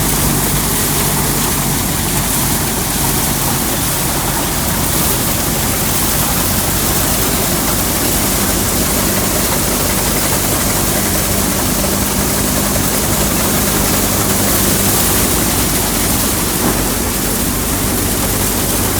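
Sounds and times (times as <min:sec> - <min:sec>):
tractor engine hum: 0:00.0 - 0:18.9.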